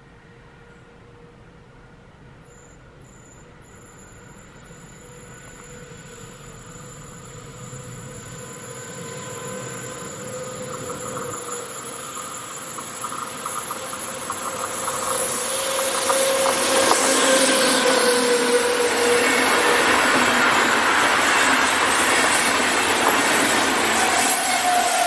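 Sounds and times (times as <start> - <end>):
electric locomotive whining: 0.0 - 25.0
train running noise: 0.0 - 25.0.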